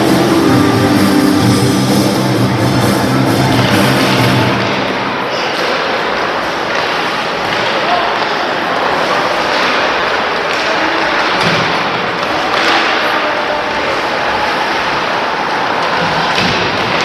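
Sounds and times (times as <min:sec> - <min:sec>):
noisy hubbub of indoor game: 0:00.0 - 0:17.0.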